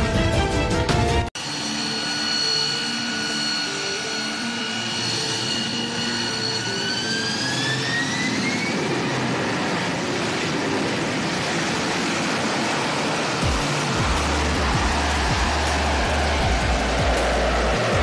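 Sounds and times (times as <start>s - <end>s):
jet engine rush and whine: 1.4s - 18.0s.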